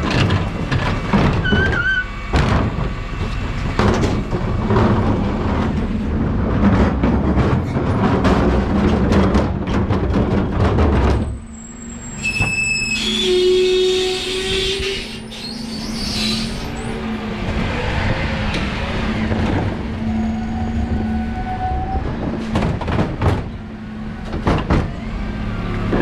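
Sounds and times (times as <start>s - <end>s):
refuse truck clattering: 0.0s - 26.0s
truck engine drone: 0.0s - 26.0s.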